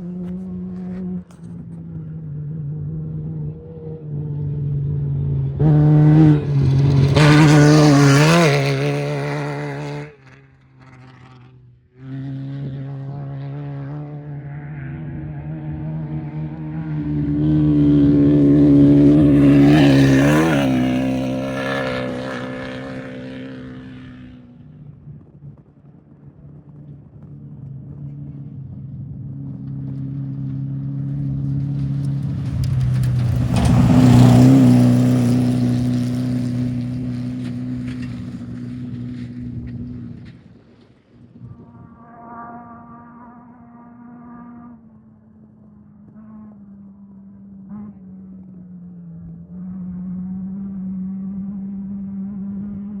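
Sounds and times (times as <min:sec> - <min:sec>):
low engine hum: 0:00.0 - 0:53.0
race vehicles passing at speed: 0:00.0 - 0:53.0.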